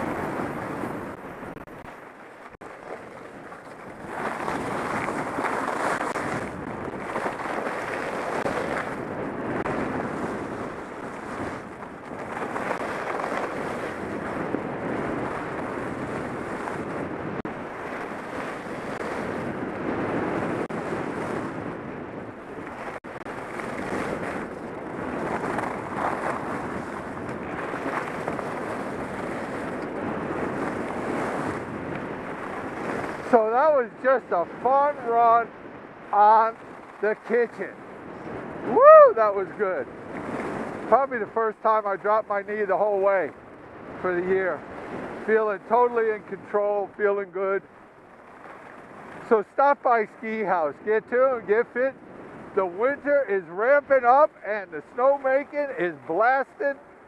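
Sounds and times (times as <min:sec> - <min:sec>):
skis scraping over snow: 0:00.0 - 0:21.5, 0:22.5 - 0:35.5, 0:36.1 - 0:38.3, 0:39.2 - 0:43.3, 0:44.0 - 0:47.6, 0:48.2 - 0:56.8
wind rushing over microphone: 0:00.0 - 0:57.0.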